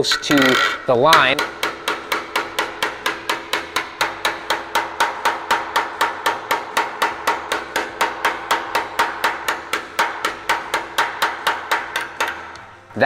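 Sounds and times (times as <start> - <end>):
hammer ringing on sheet metal: 0.0 - 12.6.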